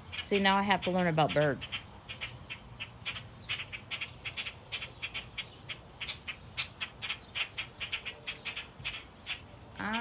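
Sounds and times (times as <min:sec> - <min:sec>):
blackbird alarm calls: 0:00.0 - 0:10.0.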